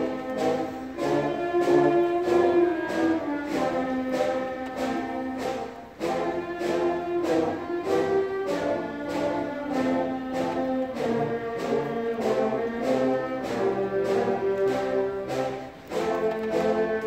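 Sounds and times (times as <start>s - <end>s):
concert band playing: 0.0s - 17.0s.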